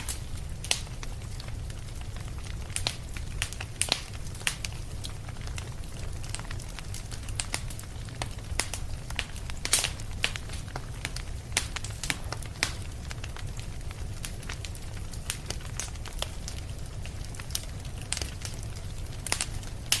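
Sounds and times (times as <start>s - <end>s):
low rumble of fire: 0.0s - 20.0s
wood fire crackling: 0.0s - 20.0s.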